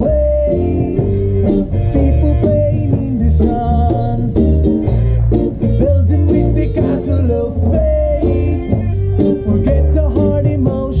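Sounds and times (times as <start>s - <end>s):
man singing lead: 0.0s - 4.6s, 5.6s - 11.0s
reggae band playing live: 0.0s - 11.0s.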